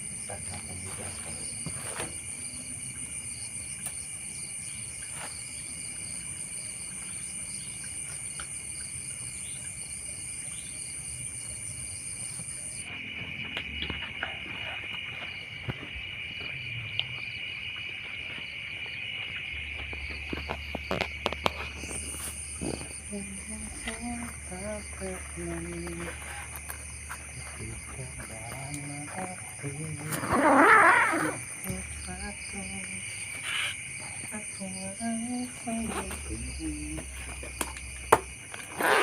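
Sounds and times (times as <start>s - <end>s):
crickets and insects chirping: 0.0s - 39.0s.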